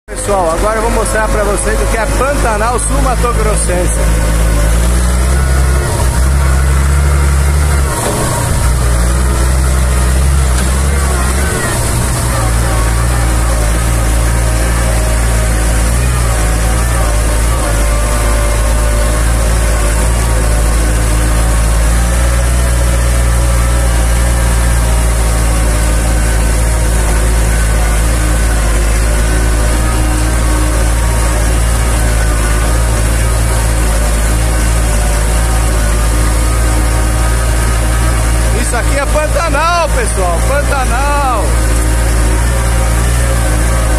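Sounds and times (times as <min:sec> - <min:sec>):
tractor engine droning: 0:00.0 - 0:43.9
tyres churning through water: 0:00.1 - 0:43.9.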